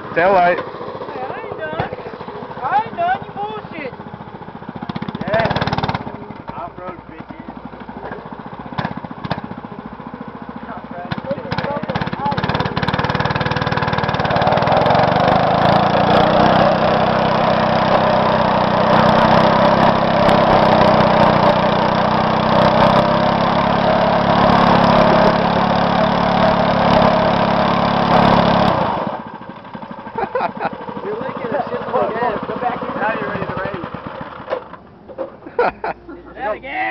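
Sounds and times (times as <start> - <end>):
small engine running: 0.0 - 36.5.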